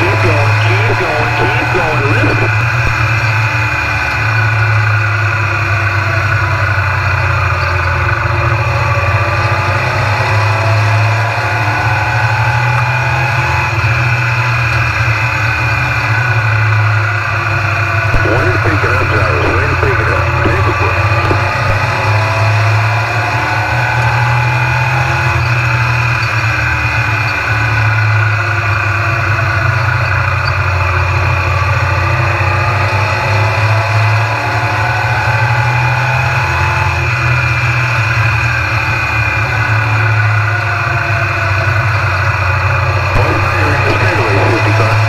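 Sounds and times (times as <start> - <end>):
stock car engine drone: 0.0 - 36.2.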